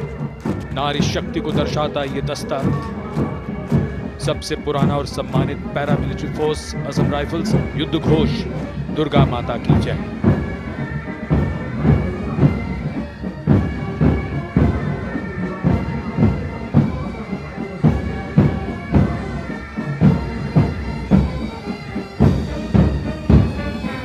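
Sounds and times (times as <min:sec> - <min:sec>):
bagpipes droning: 0:00.0 - 0:24.0
steady drum beat: 0:00.0 - 0:24.0.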